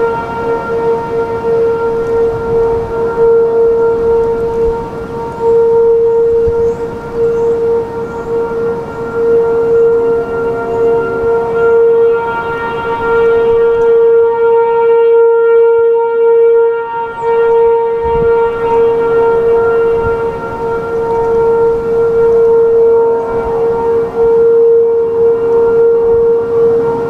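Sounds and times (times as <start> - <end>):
distant warning siren: 0.0 - 27.0
wind rumble on microphone: 0.0 - 27.0.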